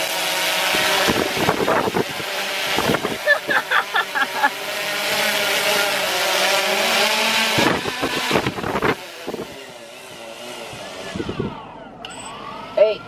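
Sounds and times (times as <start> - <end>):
drone propellers whirring: 0.0 - 13.0.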